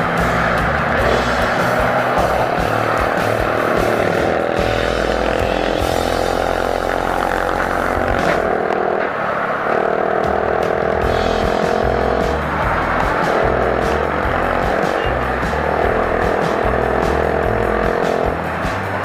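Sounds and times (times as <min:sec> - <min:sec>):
background music: 0:00.0 - 0:09.1, 0:09.8 - 0:19.0
motorcycle engine running: 0:00.0 - 0:19.0.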